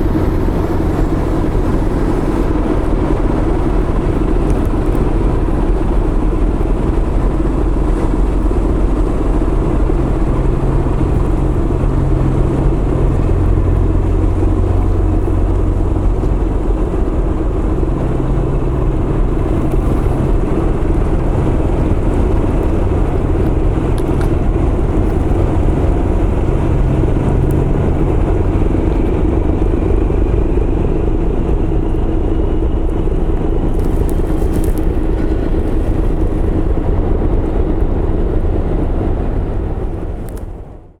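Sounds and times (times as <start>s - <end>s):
ship diesel engines droning: 0.0s - 41.0s.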